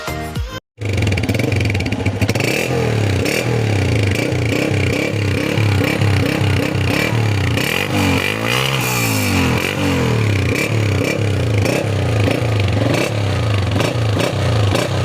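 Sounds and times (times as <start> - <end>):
motorcycle engine running: 0.8 - 15.0.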